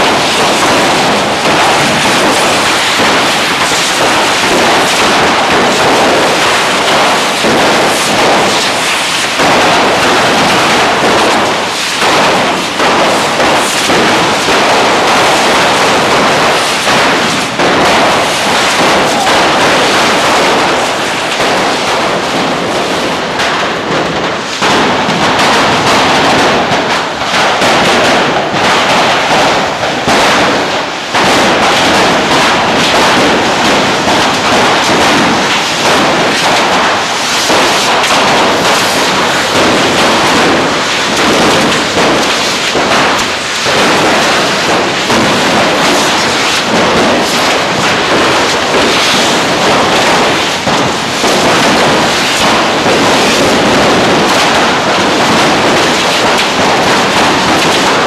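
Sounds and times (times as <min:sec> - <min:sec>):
ground rockets hissing and whooshing: 0:00.0 - 0:58.0
sharp cracks and bangs: 0:00.0 - 0:58.0.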